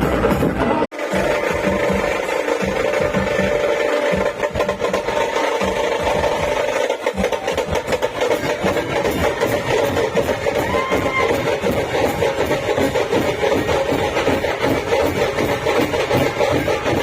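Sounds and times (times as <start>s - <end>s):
low drum beats: 0.0s - 17.0s
noisy clatter: 0.0s - 17.0s.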